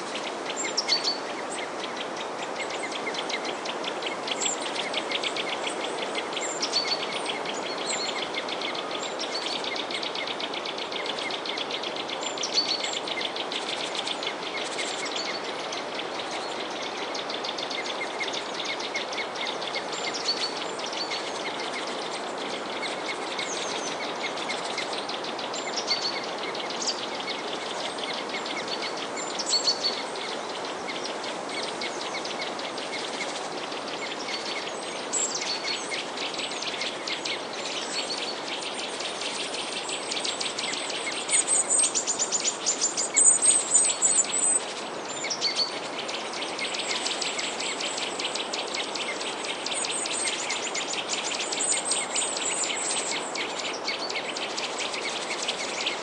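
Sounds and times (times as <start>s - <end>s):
background hiss: 0.0s - 56.0s
songbirds chirping and twittering: 0.0s - 56.0s.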